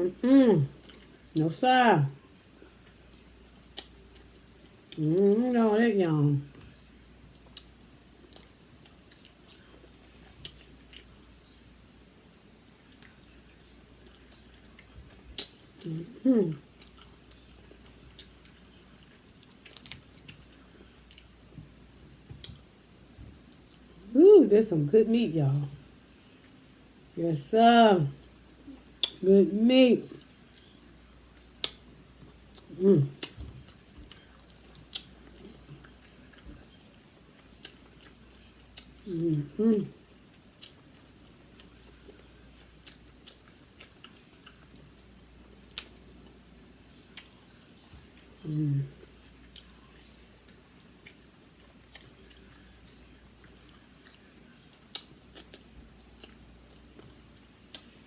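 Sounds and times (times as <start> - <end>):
faint close-up chewing: 0.6 - 1.4, 2.5 - 5.4, 6.4 - 11.6, 12.6 - 24.1, 30.1 - 58.0.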